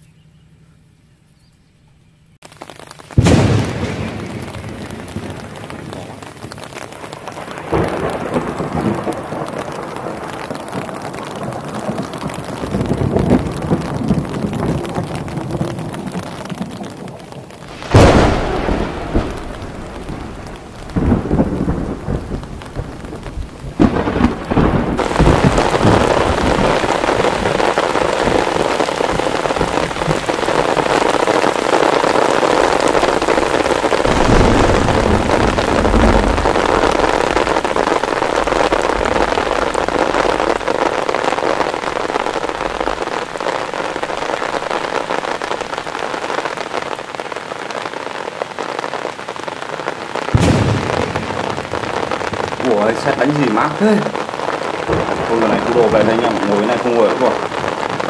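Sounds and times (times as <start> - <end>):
heavy rain on pond: 2.4 - 58.0
thunder rumbling: 3.1 - 58.0.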